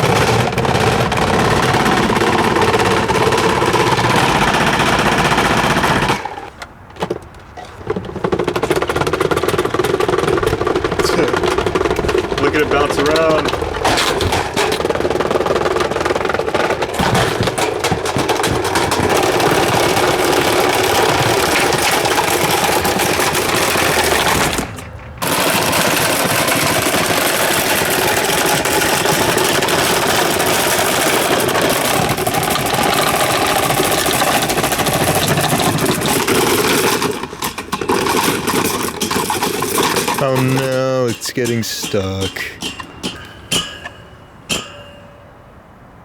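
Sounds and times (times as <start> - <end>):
table fan clattering and rattling: 0.0 - 41.2, 42.6 - 45.2.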